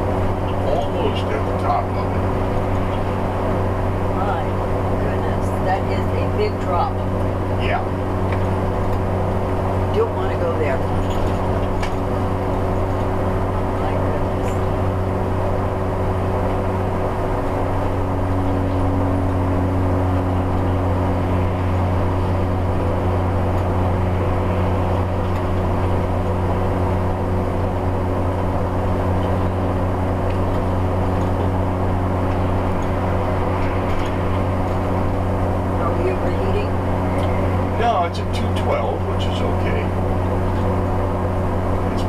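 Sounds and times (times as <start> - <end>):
diesel engine droning: 0.0 - 42.0
road noise: 0.0 - 42.0.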